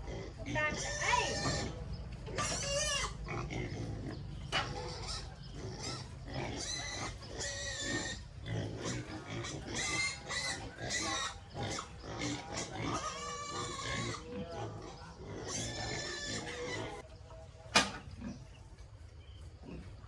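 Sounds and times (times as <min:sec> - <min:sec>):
pigs grunting: 0:00.0 - 0:17.1, 0:17.8 - 0:20.0
pigs squealing: 0:00.0 - 0:17.1.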